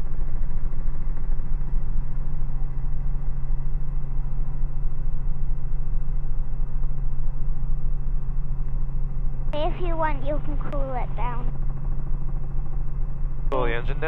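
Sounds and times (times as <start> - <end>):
helicopter engine and rotors droning: 0.0 - 14.0.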